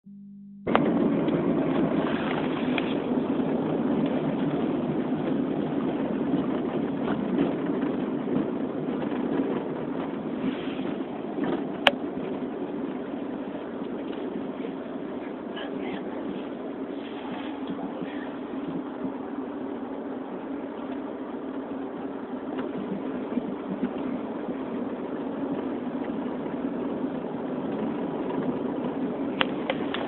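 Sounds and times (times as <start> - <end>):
car road and engine noise: 0.6 - 30.0.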